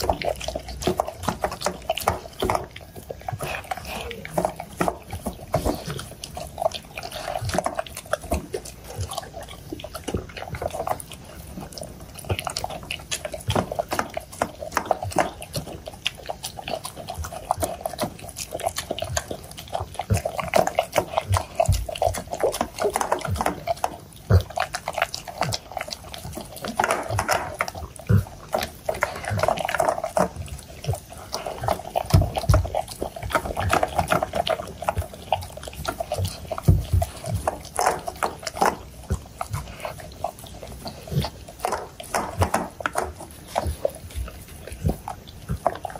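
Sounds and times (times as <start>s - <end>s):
dog chewing and lapping: 0.0s - 45.9s.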